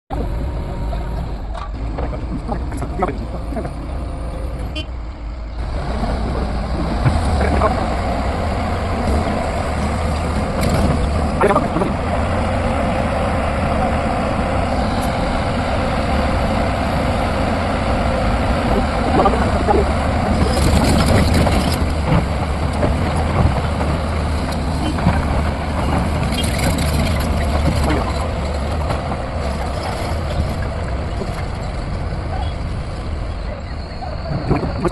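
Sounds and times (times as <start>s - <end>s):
machinery engine deep hum: 0.1s - 34.9s.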